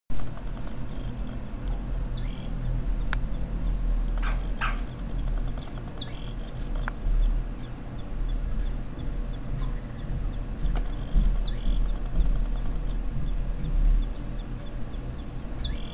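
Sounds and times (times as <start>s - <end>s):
low electrical hum: 0.1s - 15.9s
recorded songbird chirps: 0.1s - 15.9s.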